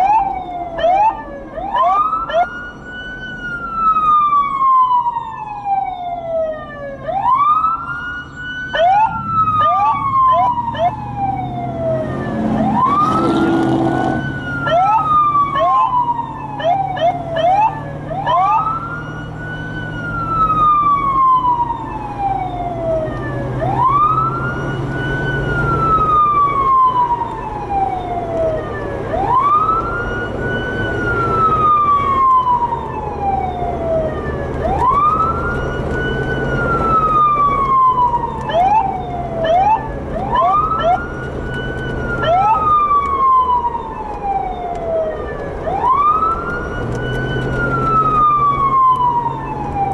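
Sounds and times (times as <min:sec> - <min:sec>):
police siren wailing: 0:00.0 - 0:49.9
siren rising chirps: 0:00.0 - 0:49.9
vehicle engine droning: 0:00.0 - 0:49.9.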